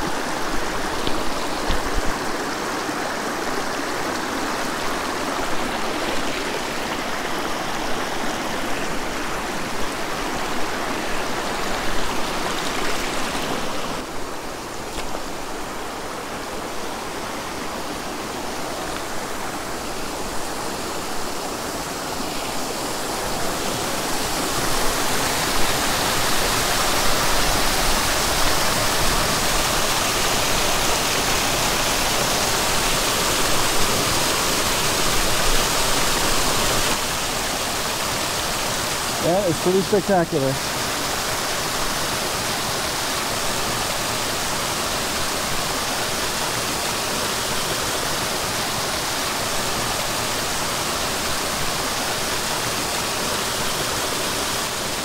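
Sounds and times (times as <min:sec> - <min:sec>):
waterfall splashing onto rocks: 0:00.0 - 0:55.0.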